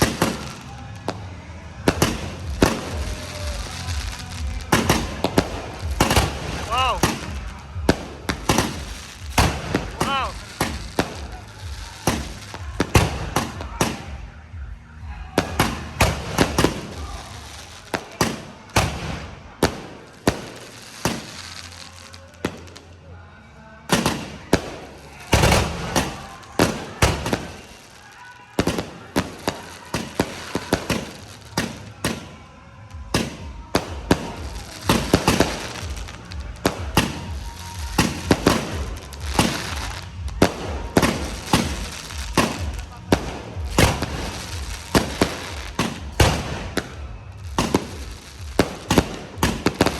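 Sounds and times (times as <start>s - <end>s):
fireworks banging and crackling: 0.0s - 23.0s, 23.8s - 49.9s.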